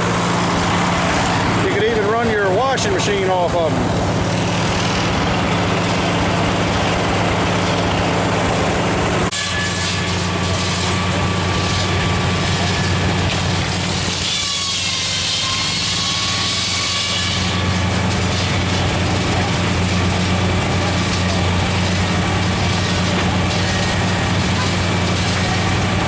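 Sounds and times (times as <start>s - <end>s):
tractor engine running: 0.0s - 9.4s, 10.0s - 14.2s, 17.4s - 26.0s
thin machinery whine: 0.0s - 26.0s.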